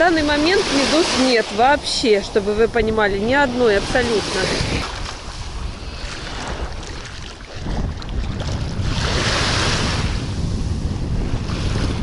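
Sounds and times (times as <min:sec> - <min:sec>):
small waves washing onto shore: 0:00.0 - 0:12.0
wind buffeting microphone: 0:00.0 - 0:12.0.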